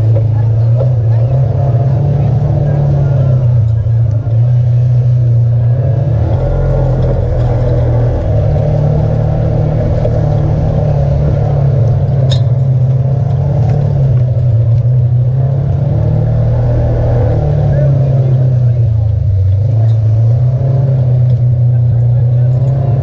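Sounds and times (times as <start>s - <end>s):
utv engine running: 0.0s - 23.0s.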